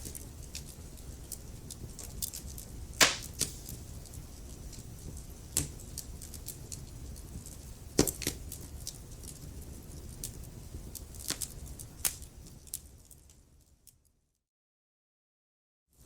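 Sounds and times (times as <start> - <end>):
fire crackling and popping: 0.0 - 13.7.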